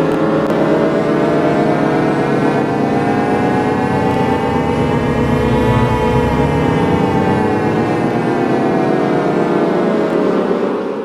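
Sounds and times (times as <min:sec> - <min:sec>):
distorted drone gliding upward: 0:00.5 - 0:11.0.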